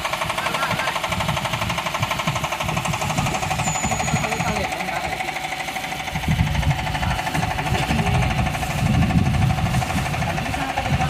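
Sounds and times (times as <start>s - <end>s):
diesel boat engine chugging: 0.0s - 11.0s.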